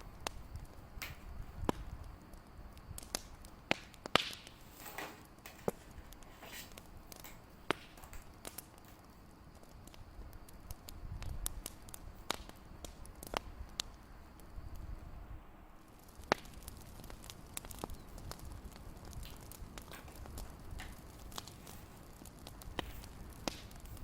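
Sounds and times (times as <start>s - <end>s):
fire burning rumble: 0.0s - 24.0s
wood popping and snapping: 0.2s - 14.0s, 16.0s - 24.0s.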